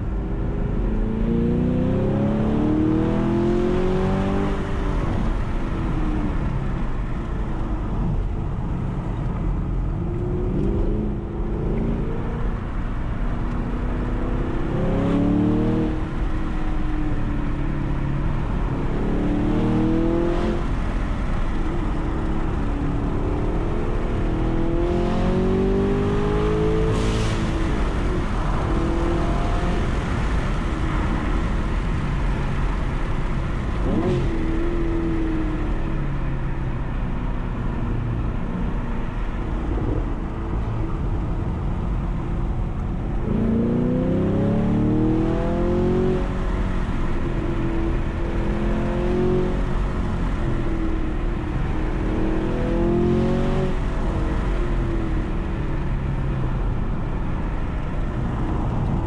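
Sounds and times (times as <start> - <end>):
car engine accelerating: 0.0 - 36.5, 37.5 - 59.0
road and tyre noise: 0.0 - 59.0.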